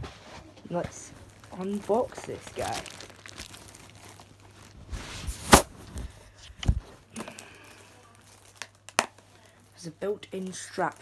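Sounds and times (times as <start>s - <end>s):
packaging crinkling and rustling: 0.7s - 11.0s.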